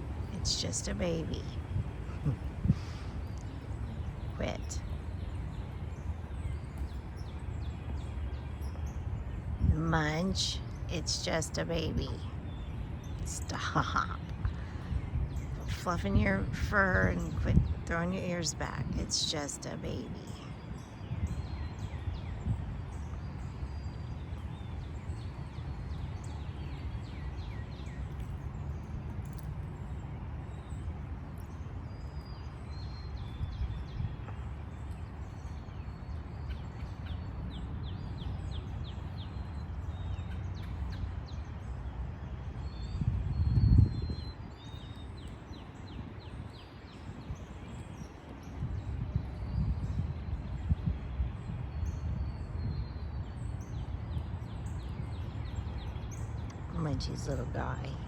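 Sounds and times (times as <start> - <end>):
low outdoor rumble: 0.0 - 58.0
small birds chirping: 0.0 - 58.0.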